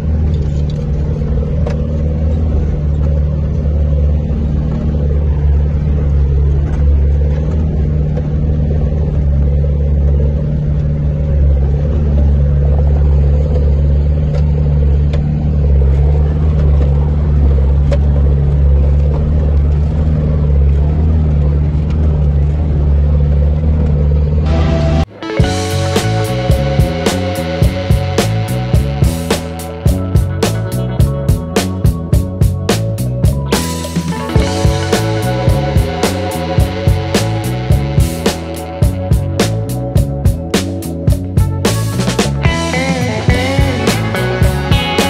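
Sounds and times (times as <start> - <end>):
engine droning at low revs: 0.0 - 45.0.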